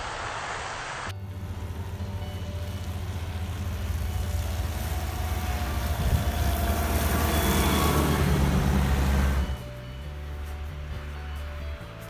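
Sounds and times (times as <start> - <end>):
snow plow tractor engine droning: 1.1 - 12.0.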